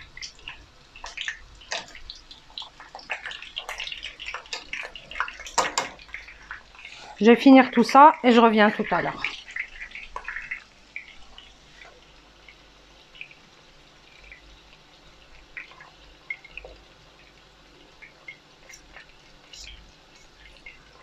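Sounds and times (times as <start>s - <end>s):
vegetables frying in oil: 0.0s - 21.0s.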